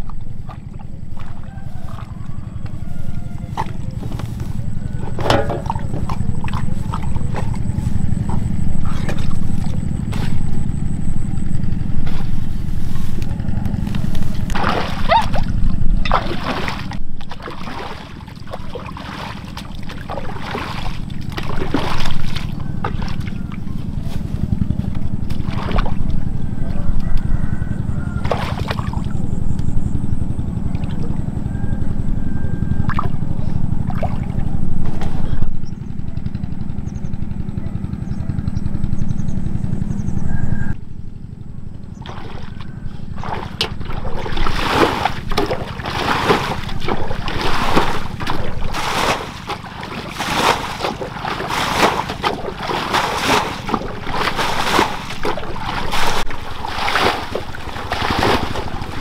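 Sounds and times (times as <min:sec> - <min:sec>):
low rumble: 0:00.0 - 0:17.4, 0:18.4 - 0:59.0
water splashing and sloshing: 0:00.0 - 0:35.5, 0:41.9 - 0:59.0.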